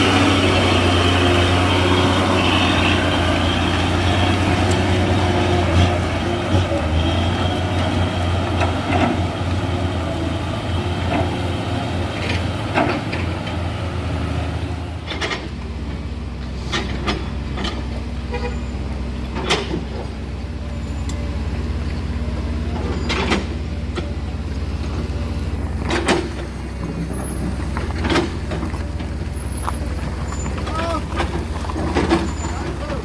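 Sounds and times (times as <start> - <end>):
diesel engines droning: 0.0 - 33.0.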